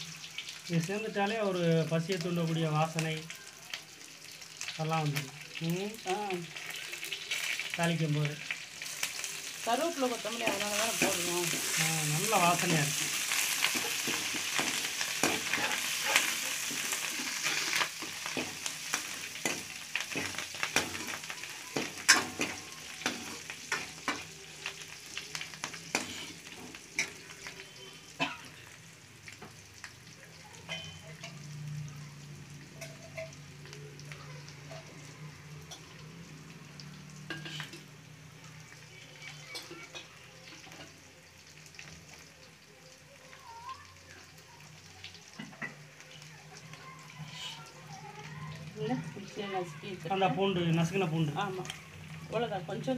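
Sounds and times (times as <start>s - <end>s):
spices sizzling in hot oil: 0.0s - 52.9s.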